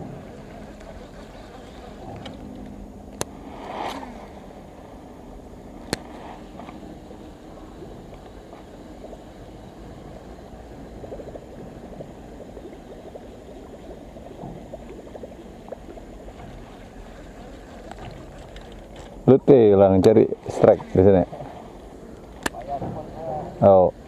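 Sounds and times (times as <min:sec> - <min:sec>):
light water sounds: 0:00.0 - 0:24.0.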